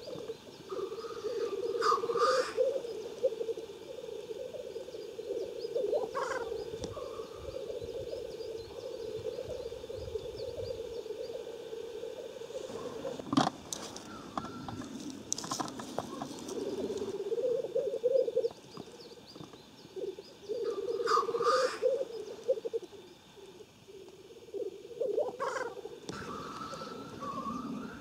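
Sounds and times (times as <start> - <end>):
grouse bubbling cooing: 0.0 - 28.0
grouse hissing call: 0.0 - 28.0.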